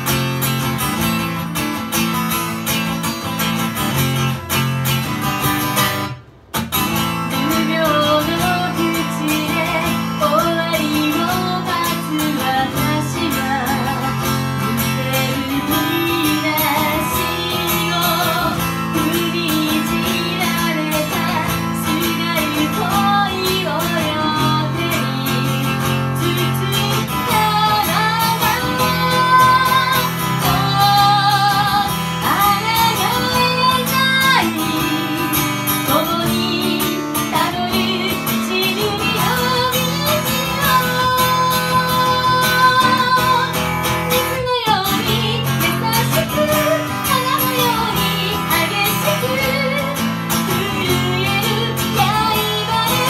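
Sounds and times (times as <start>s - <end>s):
acoustic guitar strumming: 0.0s - 53.0s
woman singing: 7.2s - 53.0s.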